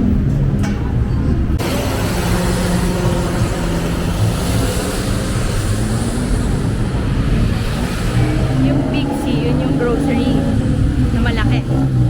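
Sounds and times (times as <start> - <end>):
road noise: 0.0 - 12.0
vehicle engines humming: 0.0 - 12.0.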